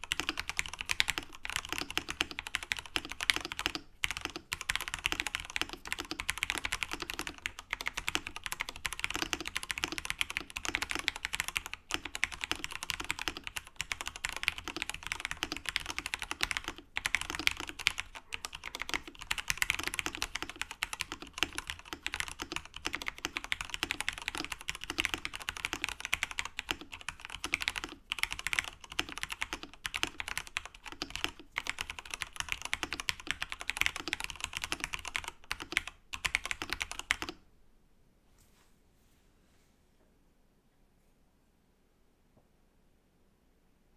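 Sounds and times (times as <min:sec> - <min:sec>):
mechanical keyboard typing: 0:00.0 - 0:37.4.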